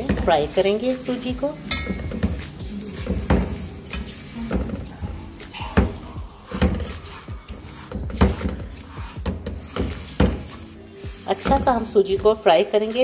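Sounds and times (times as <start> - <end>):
semolina frying in oil: 0.0 - 13.0
spatula scraping and knocking pot: 0.0 - 13.0.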